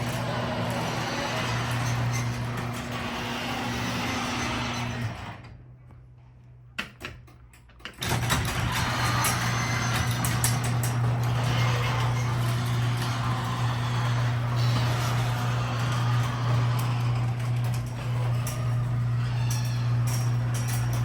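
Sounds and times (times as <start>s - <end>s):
garage door opener motor hum: 0.0s - 5.9s, 7.1s - 21.0s.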